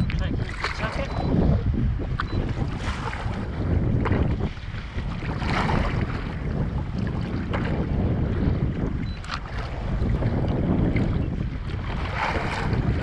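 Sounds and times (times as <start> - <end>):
water splashing against kayak: 0.0 - 13.0
wind buffeting microphone: 0.0 - 13.0.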